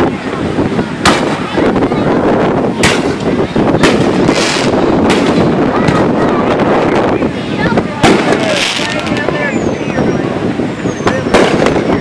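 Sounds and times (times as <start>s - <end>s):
fireworks bangs: 0.6s - 9.6s, 11.0s - 12.0s.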